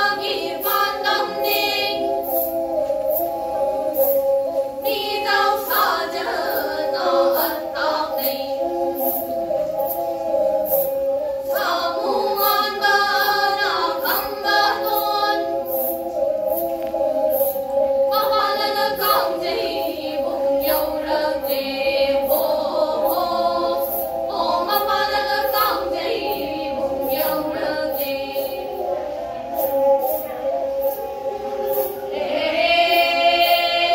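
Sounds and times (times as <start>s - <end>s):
women singing folk song: 0.0s - 29.2s, 31.8s - 33.9s.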